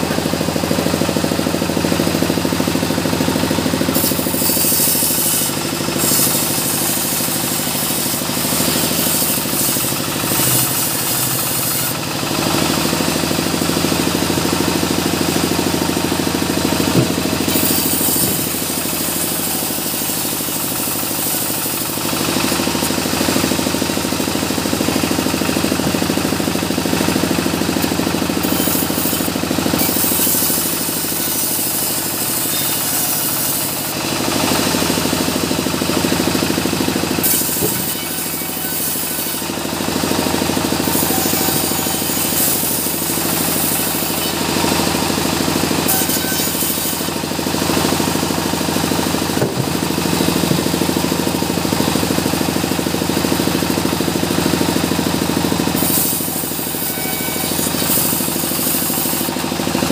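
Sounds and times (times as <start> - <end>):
circular saw cutting wood: 0.0 - 59.9
engine running: 0.0 - 59.9.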